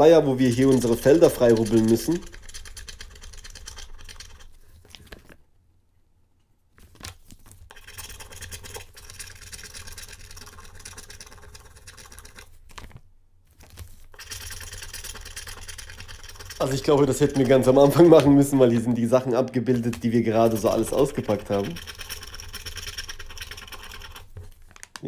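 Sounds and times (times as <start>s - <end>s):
stick scratching paper coating: 0.0s - 5.4s, 7.5s - 12.9s, 13.6s - 25.0s.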